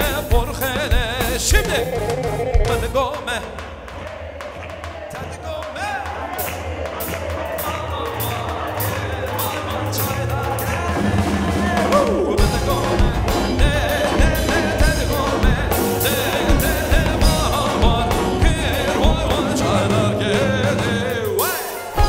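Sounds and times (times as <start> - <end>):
person singing: 0.0 - 22.0
steady drum beat: 0.0 - 22.0
wedding band music: 0.0 - 22.0.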